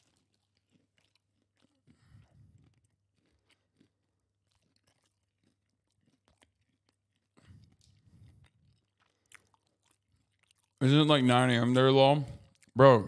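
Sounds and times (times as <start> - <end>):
mouth ticks and smacks: 0.0 - 10.8, 12.4 - 12.8
close-up chewing: 0.0 - 12.8.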